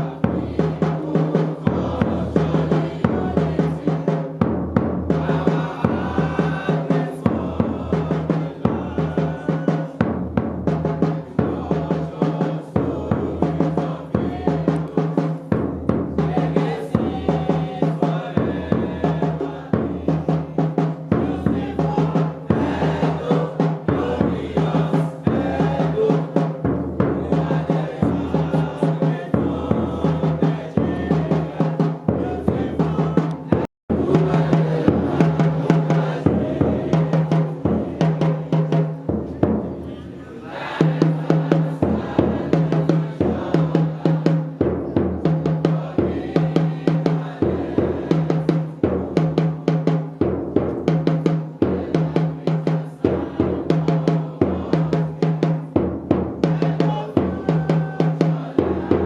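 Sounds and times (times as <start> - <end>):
music with steady drum beat: 0.0 - 59.0.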